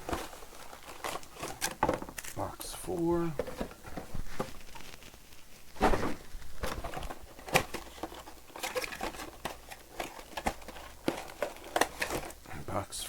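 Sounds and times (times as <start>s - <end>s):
plastic wrap crinkling: 0.0s - 12.5s.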